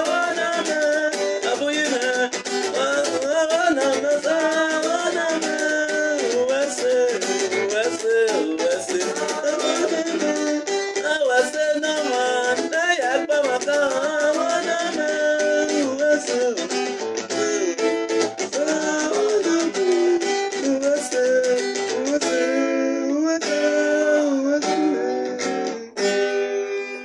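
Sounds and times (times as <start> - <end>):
man singing: 0.0 - 26.1
acoustic guitar strumming: 0.0 - 27.0.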